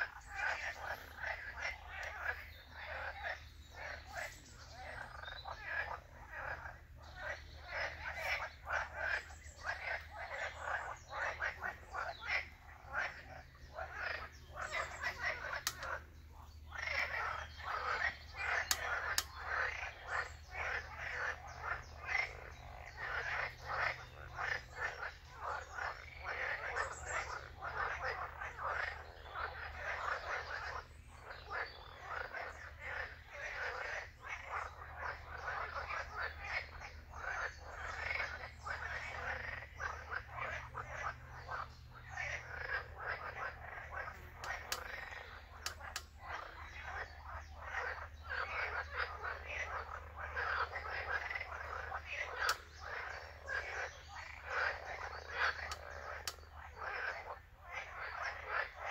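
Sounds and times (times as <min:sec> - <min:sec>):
chorus of frogs croaking: 0:00.0 - 0:58.9.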